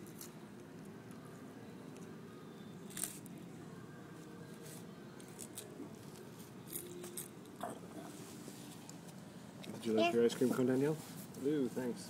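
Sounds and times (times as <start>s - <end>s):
low steady hum: 0.0s - 11.7s.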